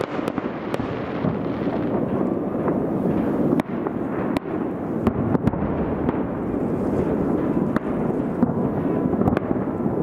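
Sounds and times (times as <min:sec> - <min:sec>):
distant fireworks rumble: 0:00.0 - 0:10.0
sharp firework cracks: 0:00.0 - 0:10.0.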